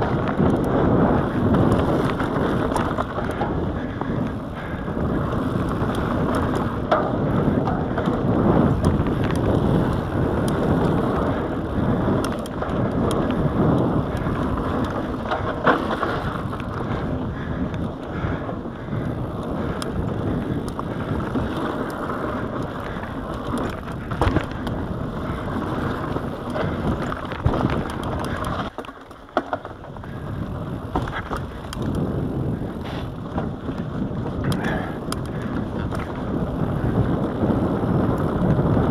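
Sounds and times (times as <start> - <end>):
bike clicks and knocks over bumps: 0.0 - 38.9
bike tyres rushing over dirt: 0.0 - 38.9.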